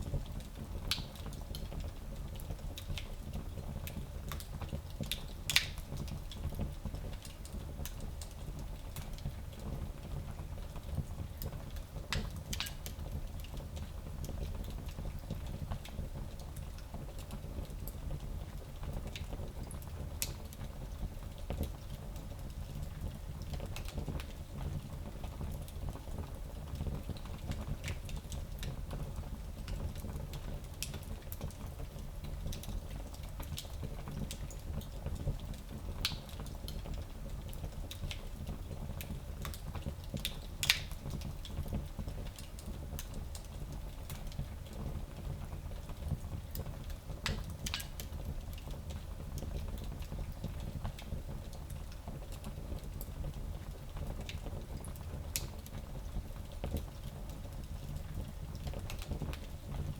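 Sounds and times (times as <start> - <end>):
fire crackles and pops: 0.0 - 59.9
wood fire low rumble: 0.0 - 59.9.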